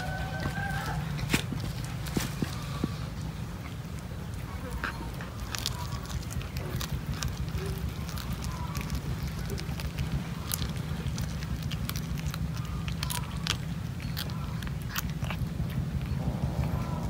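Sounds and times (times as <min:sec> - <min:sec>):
cat chewing and crunching: 0:00.0 - 0:17.0
steady low rumble: 0:00.0 - 0:17.0.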